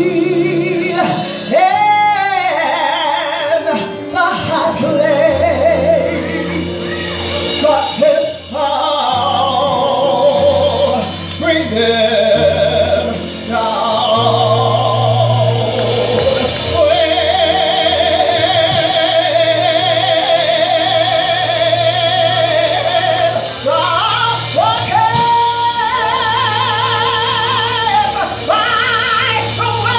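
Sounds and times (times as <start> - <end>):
instrumental accompaniment with bass: 0.0 - 29.9
woman singing gospel: 0.0 - 29.9.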